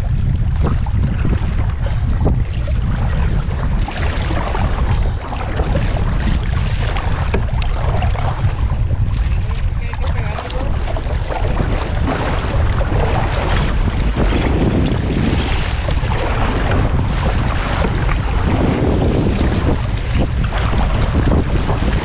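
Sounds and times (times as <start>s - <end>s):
rushing wind and water: 0.0s - 22.0s
wind buffeting microphone: 0.0s - 22.0s.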